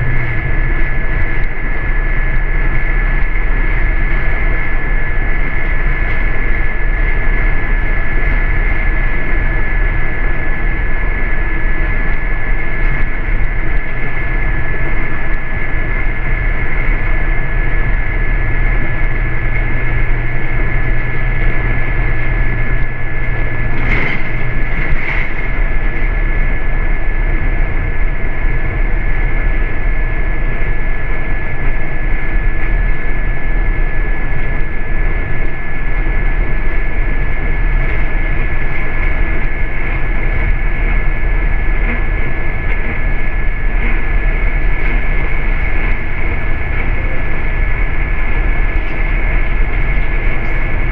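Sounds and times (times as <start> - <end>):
bus engine and road rumble: 0.0 - 50.9
high whine: 0.0 - 50.9.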